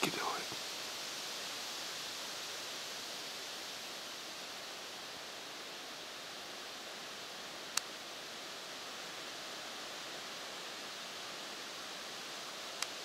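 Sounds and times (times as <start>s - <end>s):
wind through leaves: 0.0s - 13.0s.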